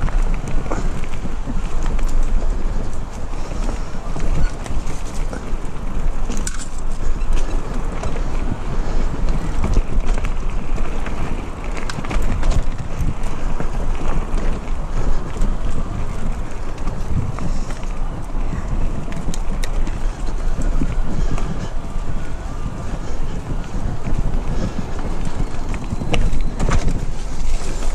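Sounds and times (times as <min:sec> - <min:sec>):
bike rattles and clicks: 0:00.0 - 0:27.9
bike tyres rumbling: 0:00.0 - 0:27.9
wind buffeting microphone: 0:00.0 - 0:27.9.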